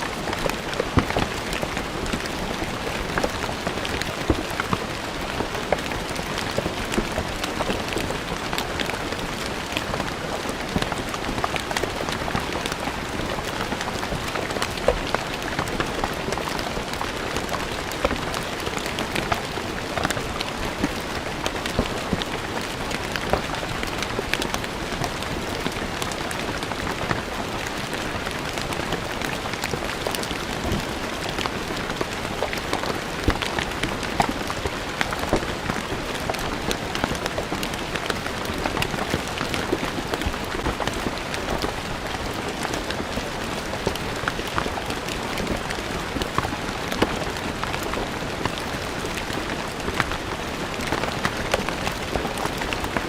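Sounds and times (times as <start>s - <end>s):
rain on stone paving: 0.0s - 53.0s.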